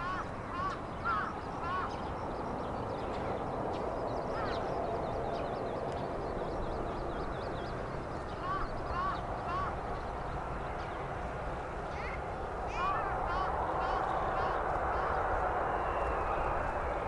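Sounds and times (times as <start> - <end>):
birds chirping and twittering: 0.0 - 17.0
steady low rumble: 0.0 - 17.0.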